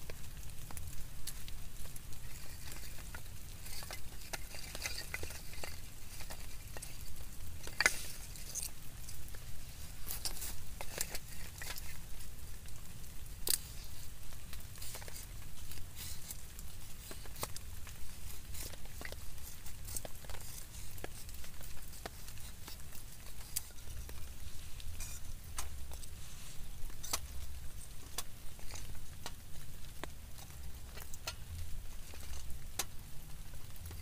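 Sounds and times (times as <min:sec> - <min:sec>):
rain pattering on tent: 0:00.0 - 0:34.0.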